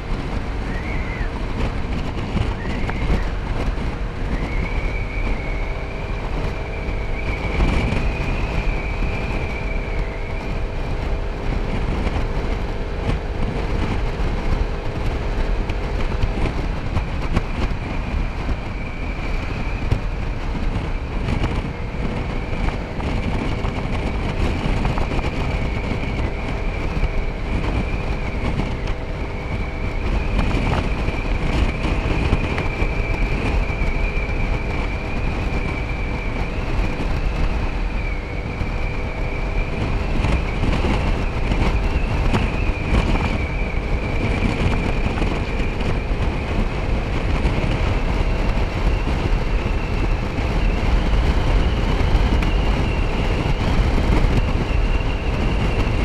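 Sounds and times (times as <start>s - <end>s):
scooter engine running: 0.0s - 56.0s
wind rushing over microphone: 0.0s - 56.0s.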